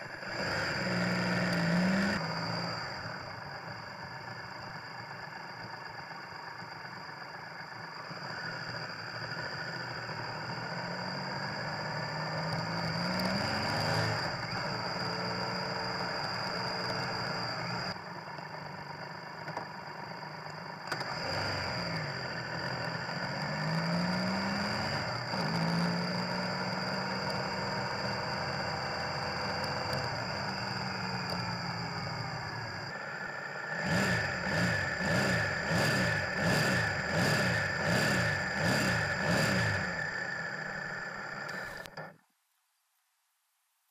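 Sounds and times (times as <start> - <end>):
motorcycle engine accelerating: 0.0 - 42.2
steady high whine: 0.0 - 42.6.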